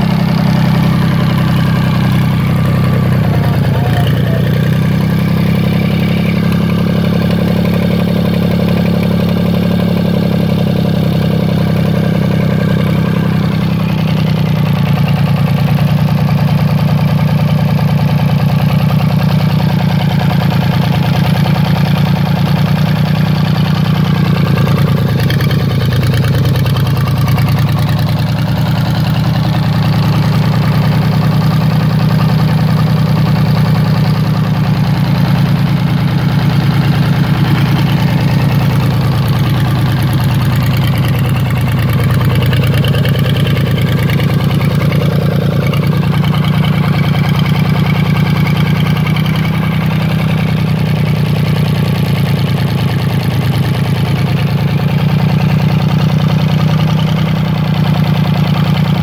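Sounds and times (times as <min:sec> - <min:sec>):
marine diesel engine idling: 0:00.0 - 0:59.0.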